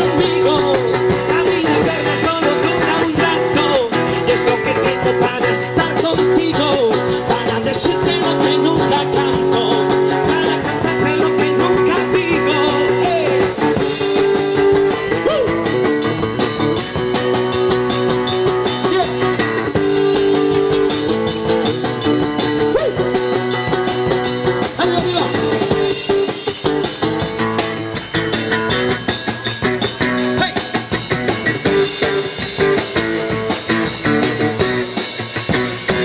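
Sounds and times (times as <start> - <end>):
guitar chords: 0.0 - 36.0
rattling percussion: 0.0 - 36.0.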